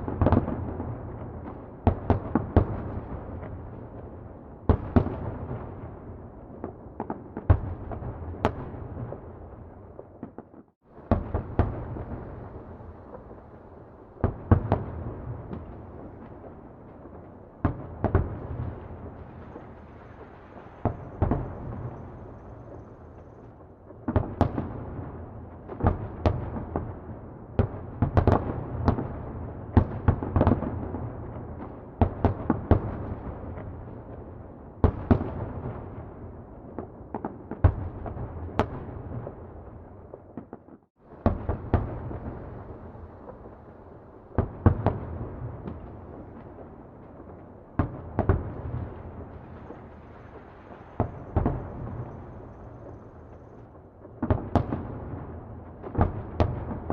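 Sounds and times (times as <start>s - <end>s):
distant fireworks bangs: 4.6s - 34.2s, 34.8s - 56.9s.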